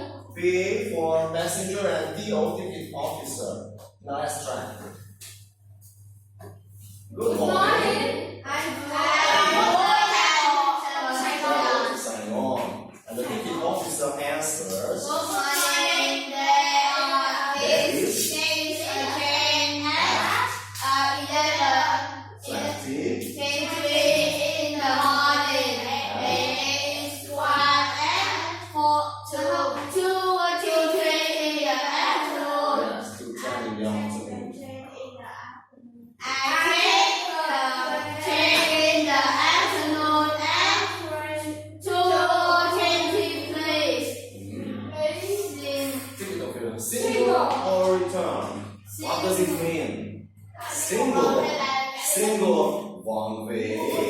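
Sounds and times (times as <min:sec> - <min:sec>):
children reading aloud in chorus: 0:00.0 - 0:00.8, 0:07.1 - 0:35.5, 0:36.2 - 0:49.9, 0:50.6 - 0:54.0.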